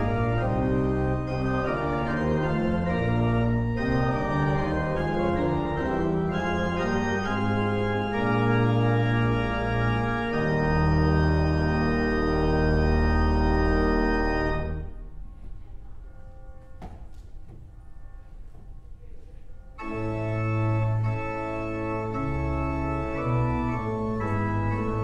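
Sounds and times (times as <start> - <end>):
pipe organ chords: 0.0 - 15.3, 19.7 - 25.0.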